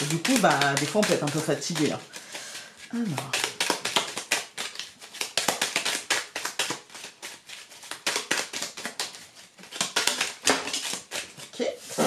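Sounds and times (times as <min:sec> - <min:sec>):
cards being shuffled by hand: 0:00.0 - 0:12.0.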